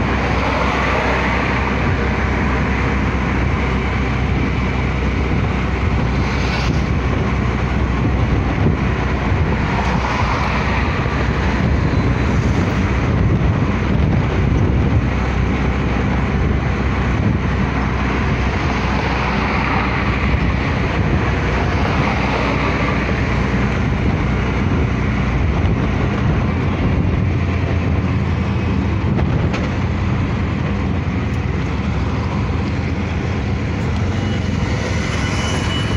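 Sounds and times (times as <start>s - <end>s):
auto-rickshaw engine running: 0.0s - 35.9s
wind and road rush: 0.0s - 35.9s.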